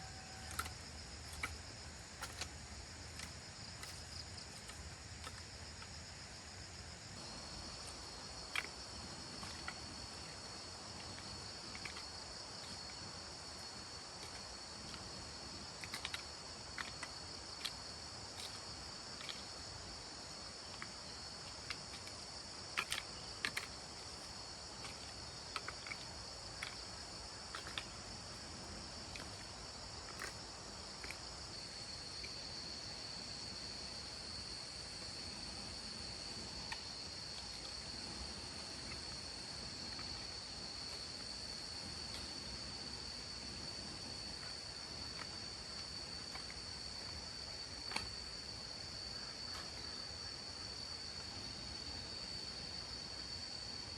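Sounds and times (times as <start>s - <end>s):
insects chorus: 0.0s - 53.9s.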